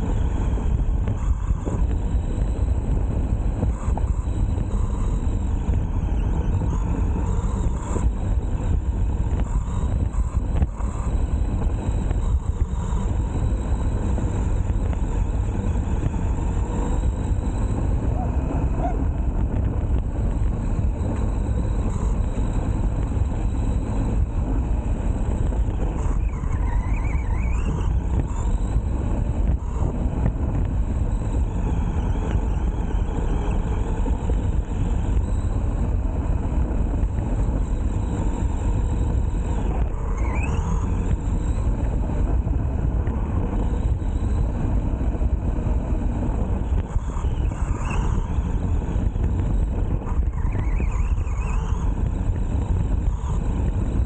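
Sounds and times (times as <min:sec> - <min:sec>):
rc car motor rumble: 0:00.0 - 0:54.0
short rising whine: 0:00.0 - 0:54.0.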